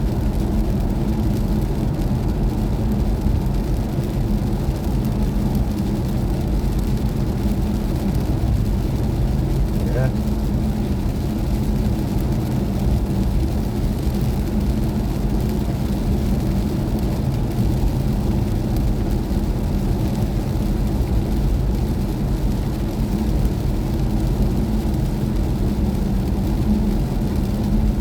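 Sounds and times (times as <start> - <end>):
road and tyre rumble in car: 0.0 - 28.0.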